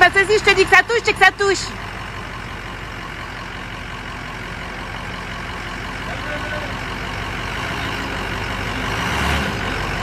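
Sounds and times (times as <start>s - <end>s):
pickup truck engine running: 0.0s - 10.0s.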